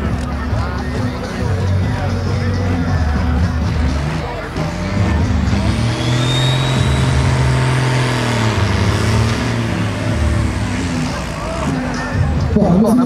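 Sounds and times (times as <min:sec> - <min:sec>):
tractor engine revving high: 0:00.0 - 0:12.6.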